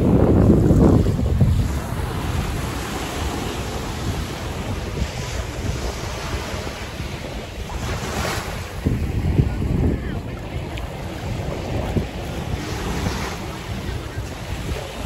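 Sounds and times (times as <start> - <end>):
small waves on shore: 0.0 - 15.0
wind buffeting microphone: 0.0 - 15.0.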